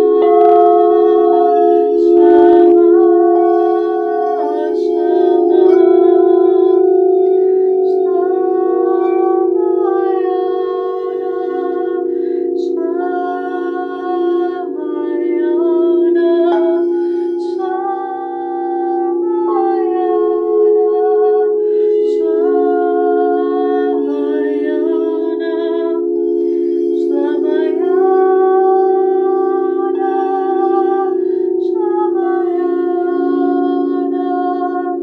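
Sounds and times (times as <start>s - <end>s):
steady layered drone: 0.0s - 35.0s
woman chanting: 0.0s - 35.0s.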